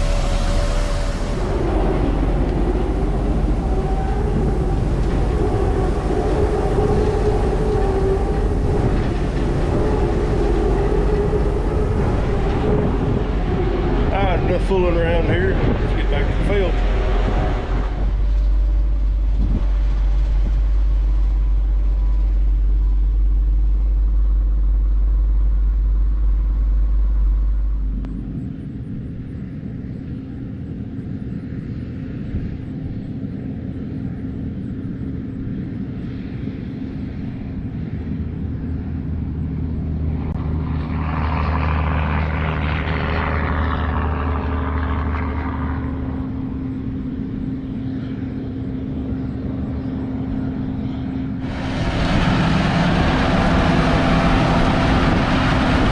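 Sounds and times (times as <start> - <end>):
rushing noise: 0.0 - 30.9, 36.4 - 55.9
truck engine droning: 0.0 - 55.9.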